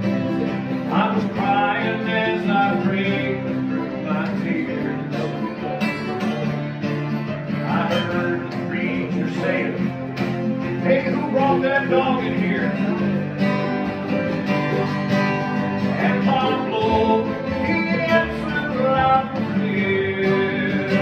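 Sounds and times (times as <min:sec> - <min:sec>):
bluegrass band playing: 0:00.0 - 0:21.0.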